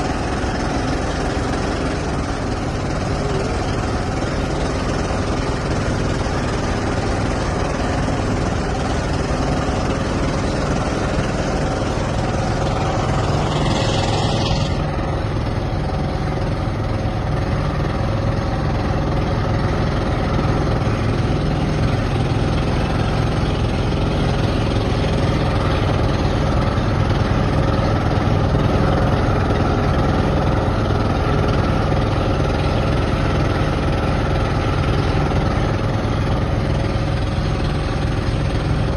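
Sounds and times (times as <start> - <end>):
engine droning: 0.0 - 38.9.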